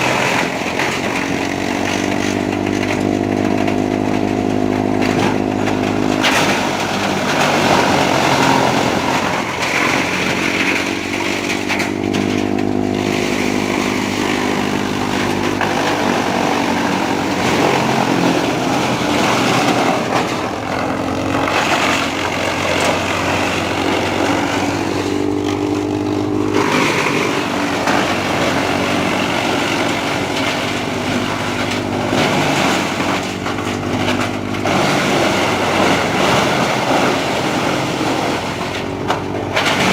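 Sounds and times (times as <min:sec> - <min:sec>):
tractor diesel engine running: 0:00.0 - 0:39.9
wood chipper grinding: 0:00.0 - 0:39.9.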